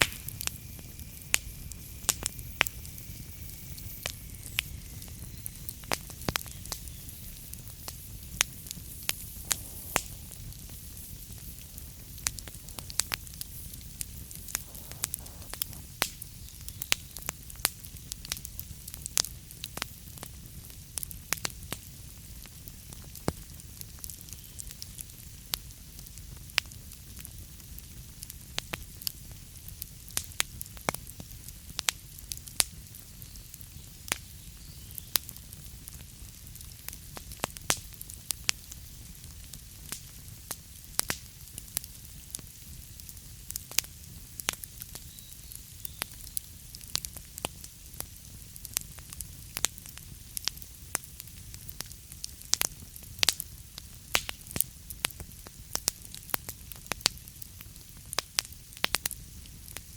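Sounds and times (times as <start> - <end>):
burning wood crackling: 0.0 - 59.9
fire rumbling and hissing: 0.0 - 59.9.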